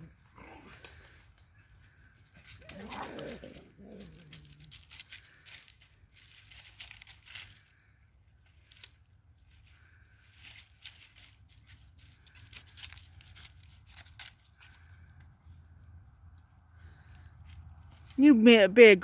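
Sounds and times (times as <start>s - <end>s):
faint crackling and rustling: 0.0s - 18.4s.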